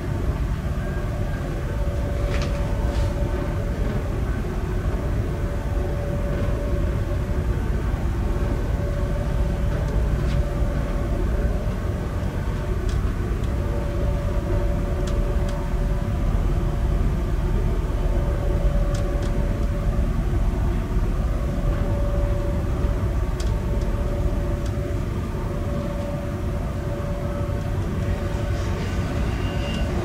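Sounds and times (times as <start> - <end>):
humming tone: 0.0 - 30.0
train wheels rumbling on rails: 0.0 - 30.0.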